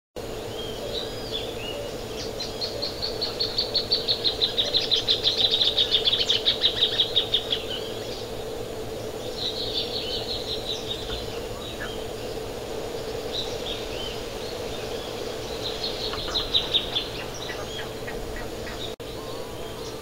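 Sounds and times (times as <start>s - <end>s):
faint steady hum: 0.2s - 20.0s.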